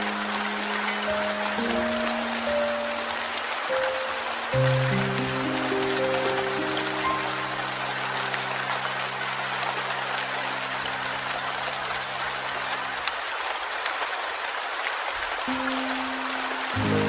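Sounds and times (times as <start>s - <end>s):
soft low music chord: 0.0s - 12.5s, 15.5s - 17.0s
steady rain falling: 0.0s - 17.0s.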